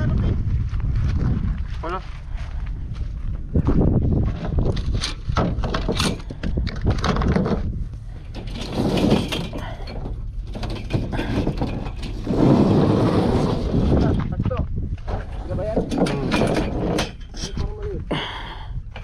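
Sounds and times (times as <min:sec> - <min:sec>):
wind on microphone: 0:00.0 - 0:09.5, 0:10.9 - 0:19.0.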